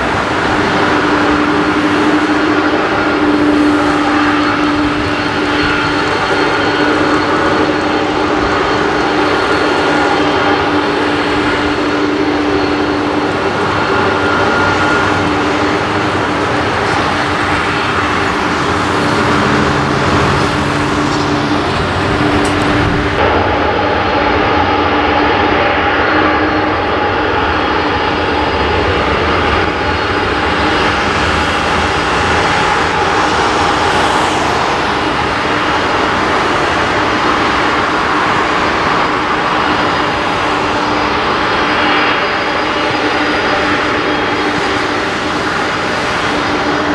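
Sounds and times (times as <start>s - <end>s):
jet aircraft taxiing: 0.0s - 46.9s.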